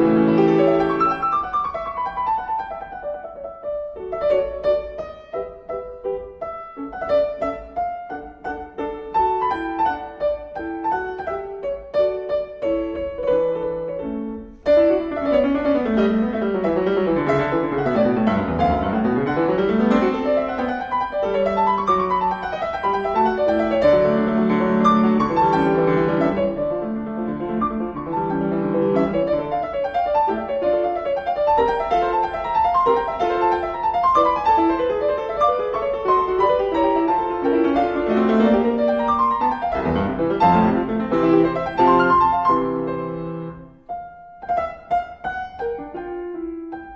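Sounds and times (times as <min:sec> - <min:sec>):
piano music: 0:00.0 - 0:46.9.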